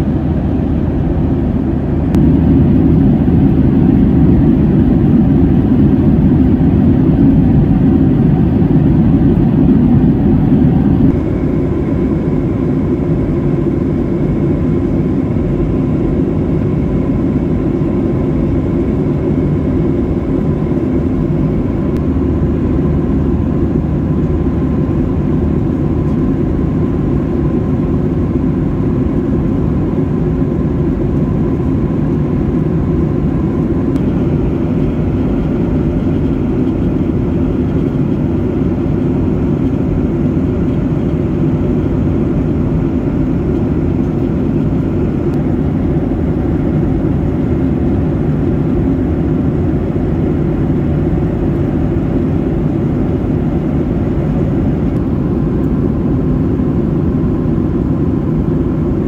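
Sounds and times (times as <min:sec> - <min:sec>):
aircraft cabin engine rush: 0:00.0 - 0:59.0.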